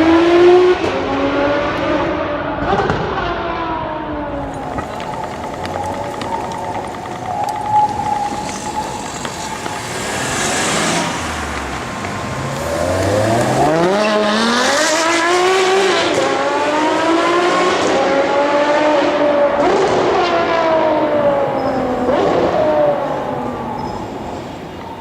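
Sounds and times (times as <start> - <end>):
car engine accelerating hard: 0.0 - 24.5.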